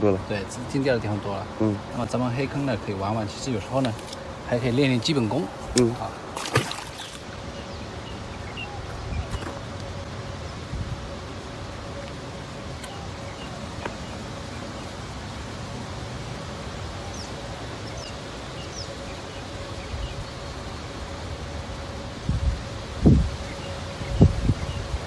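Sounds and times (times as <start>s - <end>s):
faint steady hum: 0.0s - 25.0s
steady outdoor hiss: 0.0s - 25.0s.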